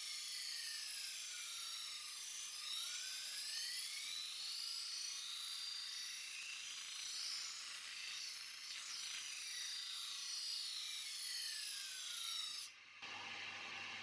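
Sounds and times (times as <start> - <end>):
knife on grinding wheel: 0.5 - 14.0.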